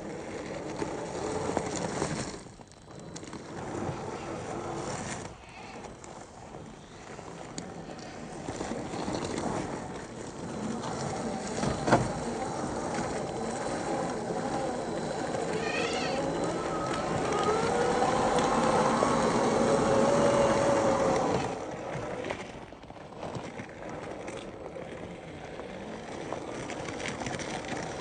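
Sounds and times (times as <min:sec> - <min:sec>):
electric drivetrain whining: 0:00.0 - 0:28.0.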